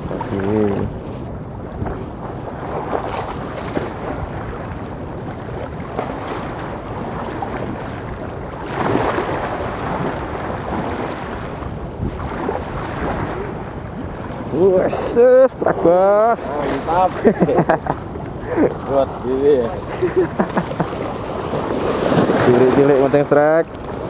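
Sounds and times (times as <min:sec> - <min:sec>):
seawater lapping and splashing: 0:00.0 - 0:24.0
wind buffeting microphone: 0:00.0 - 0:24.0.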